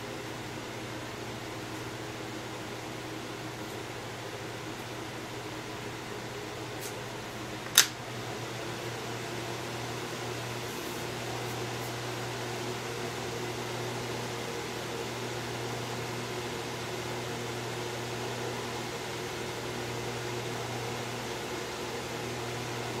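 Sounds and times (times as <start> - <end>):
box fan running: 0.0 - 23.0.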